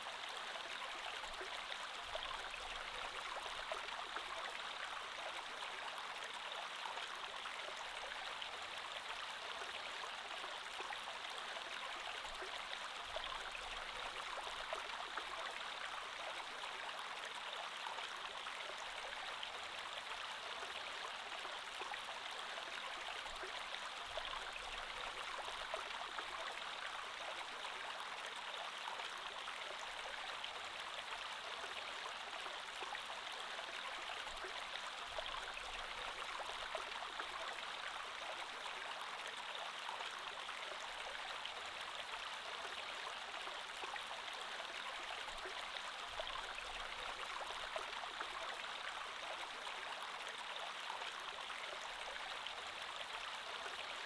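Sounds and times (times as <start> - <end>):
creek water flowing over rocks: 0.0 - 54.0.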